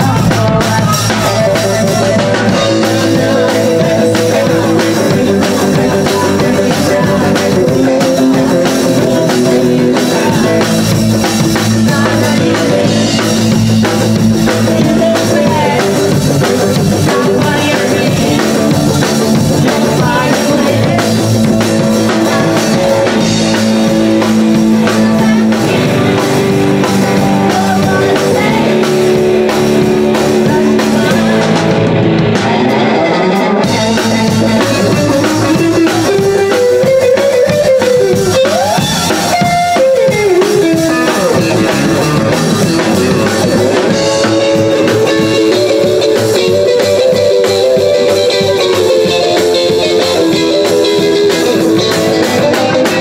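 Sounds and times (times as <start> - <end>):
drum kit: 0.0 - 53.0
electric guitar: 0.0 - 53.0
upright bass: 0.0 - 53.0.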